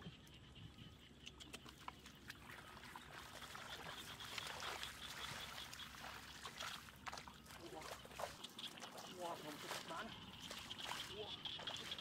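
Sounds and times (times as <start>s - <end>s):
hands sloshing through muddy water: 1.3s - 12.0s.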